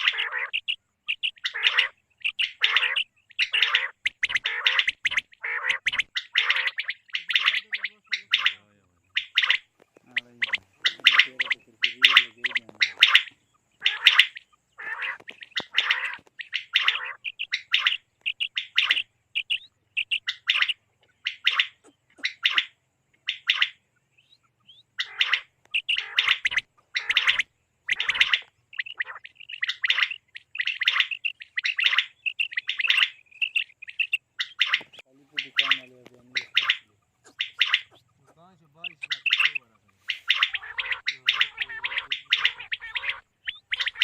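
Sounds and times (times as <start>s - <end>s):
quail calling: 0.0s - 44.0s.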